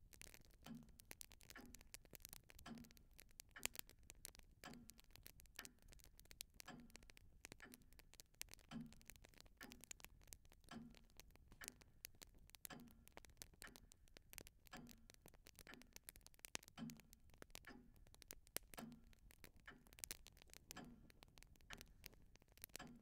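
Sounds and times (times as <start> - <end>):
clock ticking: 0.0 - 23.0.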